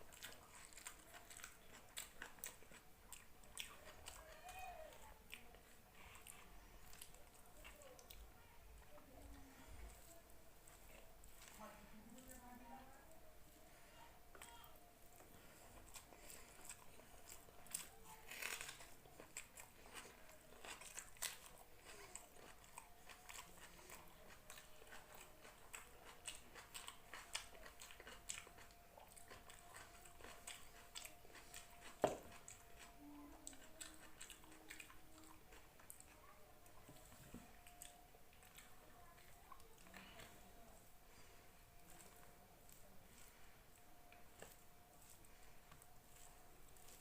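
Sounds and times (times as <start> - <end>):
person chewing food: 0.0 - 12.6, 13.4 - 47.0.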